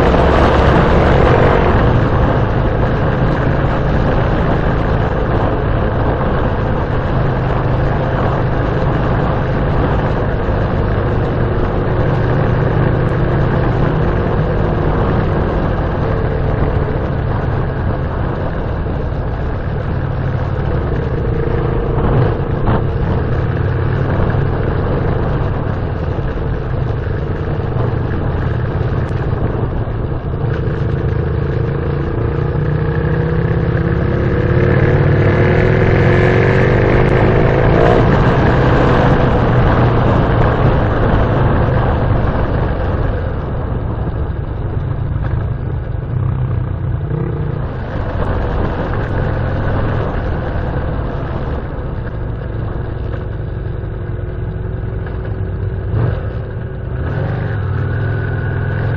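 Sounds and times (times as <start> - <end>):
vehicle engine running: 0.0 - 58.9.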